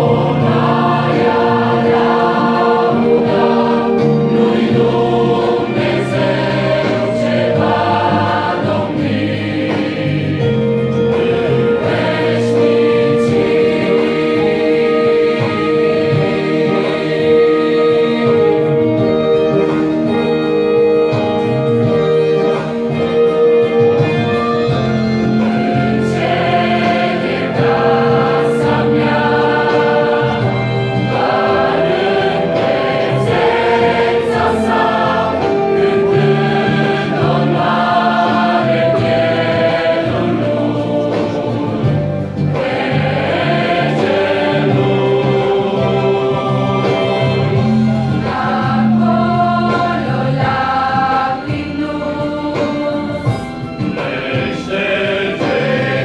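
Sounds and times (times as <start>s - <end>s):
mixed choir singing a hymn: 0.0s - 56.0s.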